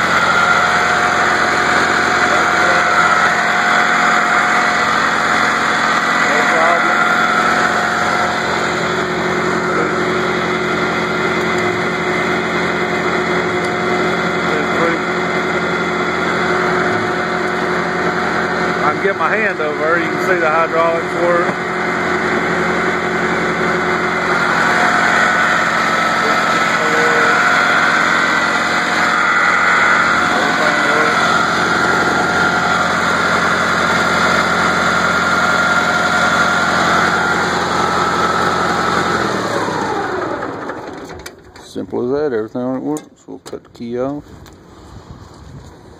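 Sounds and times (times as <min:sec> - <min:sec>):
high whine: 0:00.0 - 0:41.2
tractor engine running: 0:00.0 - 0:45.9.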